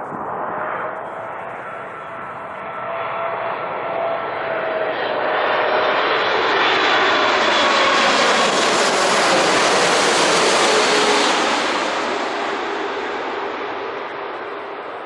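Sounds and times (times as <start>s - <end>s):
jet engine whine: 0.0s - 15.0s
jet plane passing low overhead: 0.0s - 15.0s.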